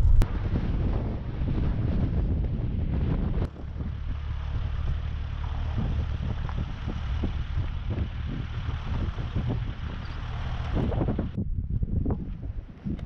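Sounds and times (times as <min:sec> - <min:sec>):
vehicle on gravel rumbling: 0:00.0 - 0:11.4
wind buffeting: 0:00.0 - 0:13.0.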